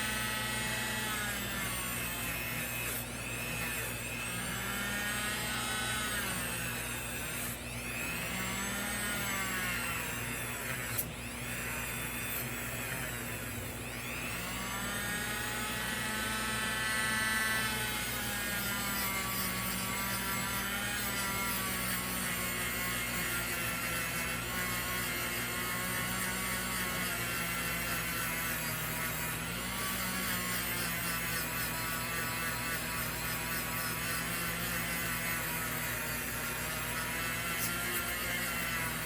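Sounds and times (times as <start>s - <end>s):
rotary tool with wire brush: 0.0s - 39.0s.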